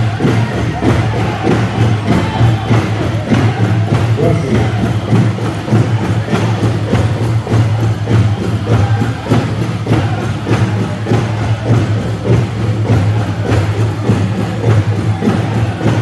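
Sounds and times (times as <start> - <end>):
big drum beat: 0.0 - 16.0
group singing: 0.0 - 16.0.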